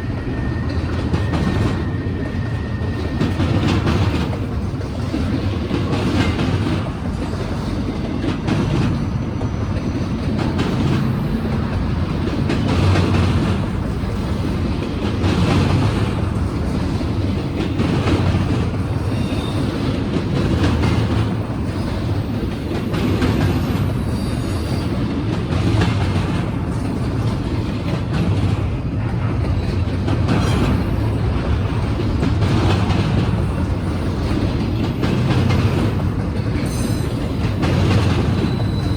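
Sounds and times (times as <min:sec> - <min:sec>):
freight train wheels clicking: 0:00.0 - 0:38.9.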